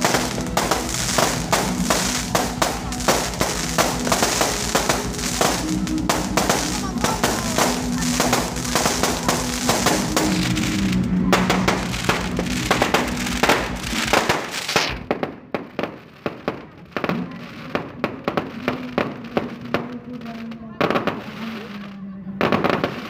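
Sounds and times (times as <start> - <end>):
firecracker bangs: 0.0 - 19.9
fireworks crackling: 0.0 - 23.0.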